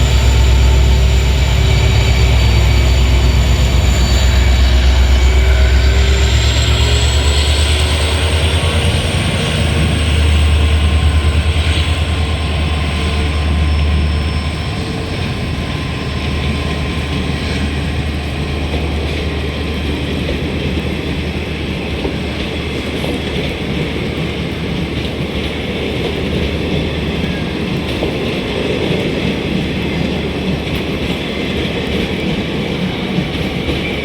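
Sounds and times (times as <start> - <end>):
diesel locomotive engine humming: 0.0 - 34.0.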